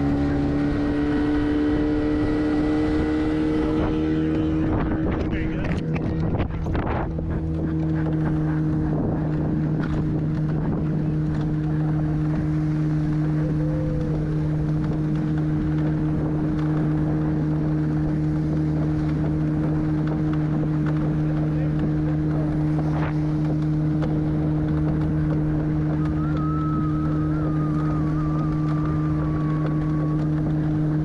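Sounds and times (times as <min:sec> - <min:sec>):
motorboat engine running: 0:00.0 - 0:31.0
wind buffeting microphone: 0:00.0 - 0:31.0.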